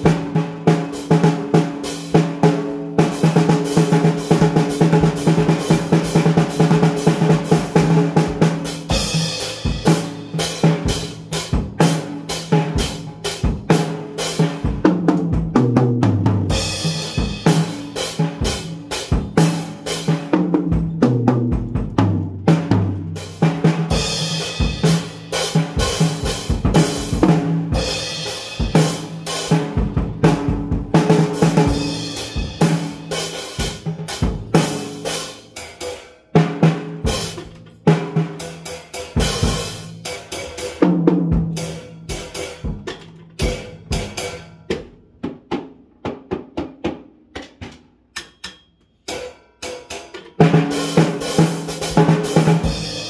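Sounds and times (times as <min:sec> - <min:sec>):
drum kit playing: 0:00.0 - 0:53.0.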